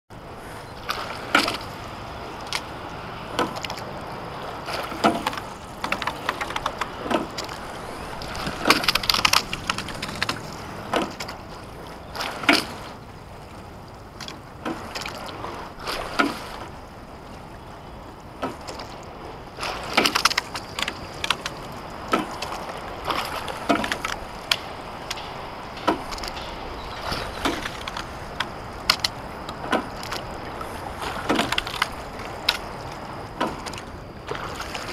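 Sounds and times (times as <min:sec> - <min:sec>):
water and wind hiss: 0:00.1 - 0:34.9
oars knocking: 0:00.3 - 0:34.9.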